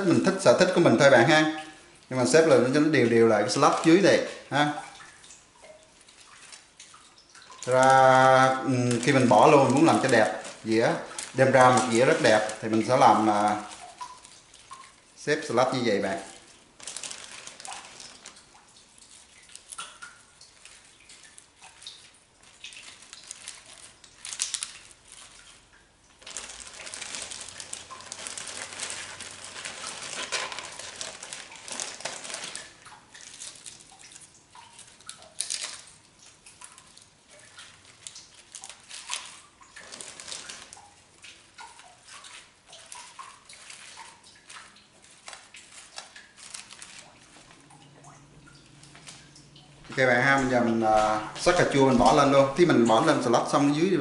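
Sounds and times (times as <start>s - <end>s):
plastic bag crinkling: 0.0s - 5.2s, 5.8s - 54.0s
lettuce leaves rustling: 0.0s - 54.0s.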